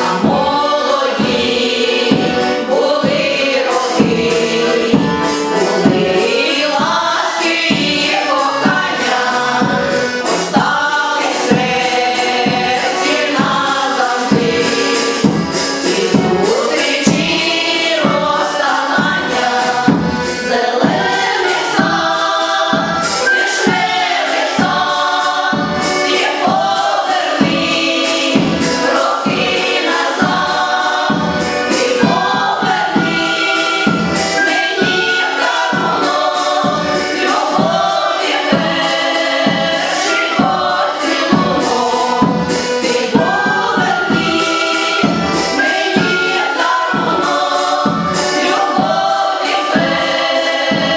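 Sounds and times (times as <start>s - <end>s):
accompaniment with steady beat: 0.0s - 50.9s
choir singing: 0.0s - 50.9s.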